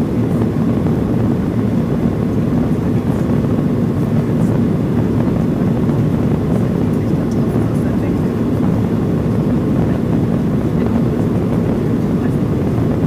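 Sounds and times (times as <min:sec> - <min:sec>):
airflow over fuselage: 0:00.0 - 0:13.0
airplane engine hum: 0:00.0 - 0:13.0.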